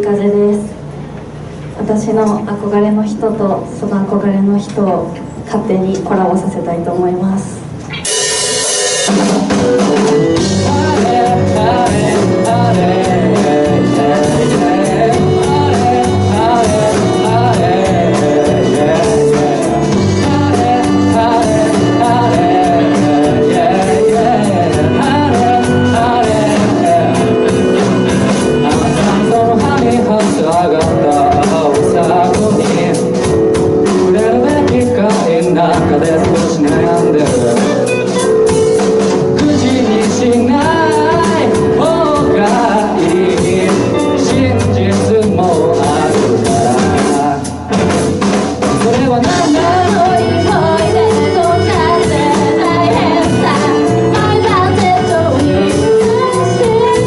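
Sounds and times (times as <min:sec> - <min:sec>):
keyboard playing: 0:00.0 - 0:57.0
person singing: 0:09.6 - 0:47.7, 0:48.6 - 0:57.0.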